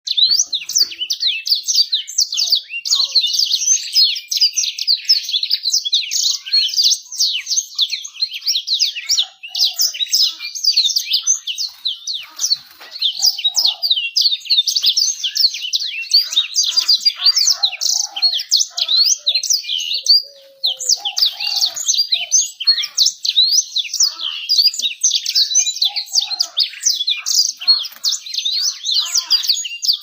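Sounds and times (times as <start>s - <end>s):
canary singing: 0.0s - 30.0s.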